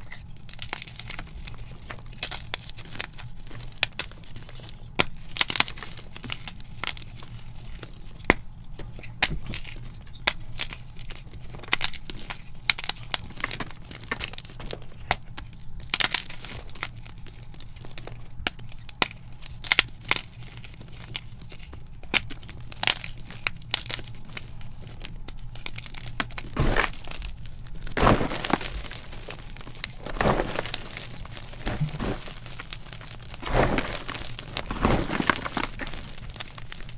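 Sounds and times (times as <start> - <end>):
chalk cracking and crunching: 0.0 - 36.9.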